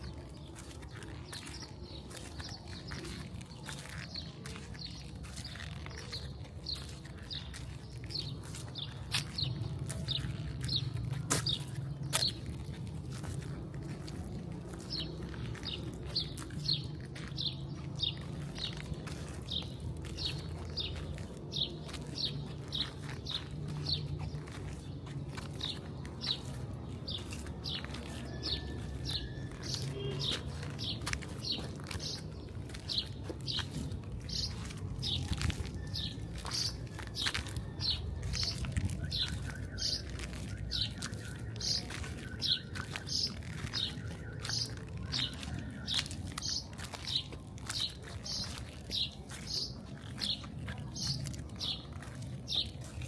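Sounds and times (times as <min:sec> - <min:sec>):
low city hum: 0:00.0 - 0:53.0
small birds chirping: 0:00.0 - 0:53.0.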